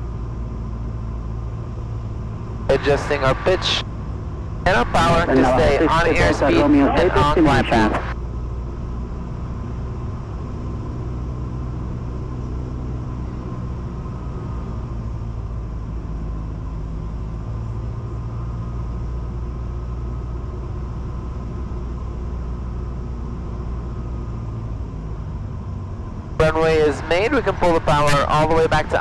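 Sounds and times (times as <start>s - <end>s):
aircraft engine and propeller: 0.0s - 29.0s.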